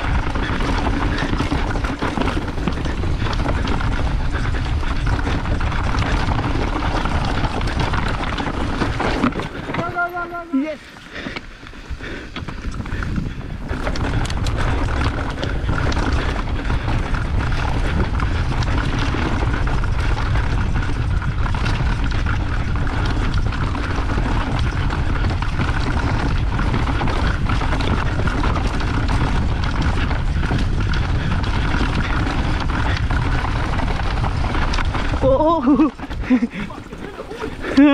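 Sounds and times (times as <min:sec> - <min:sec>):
wind rushing on microphone: 0:00.0 - 0:10.4, 0:11.8 - 0:37.9
bike clattering over roots: 0:00.0 - 0:37.9
bike tyre noise: 0:00.0 - 0:37.9.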